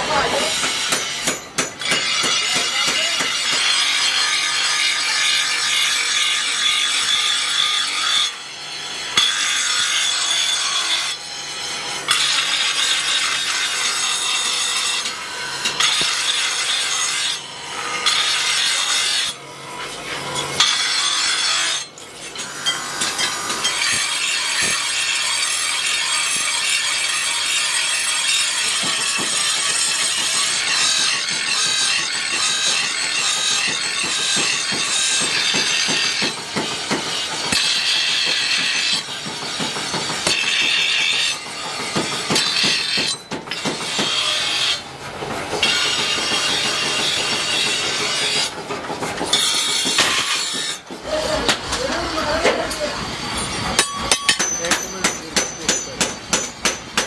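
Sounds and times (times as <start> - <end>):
grinding wheel rasp on steel: 0.0 - 57.0.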